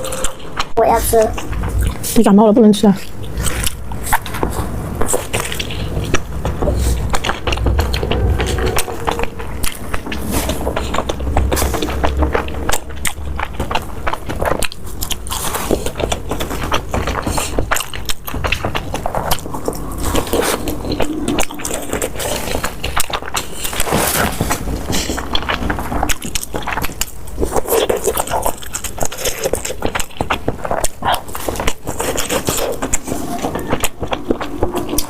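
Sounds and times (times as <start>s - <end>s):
person chewing food: 0.0s - 2.3s, 2.9s - 35.0s.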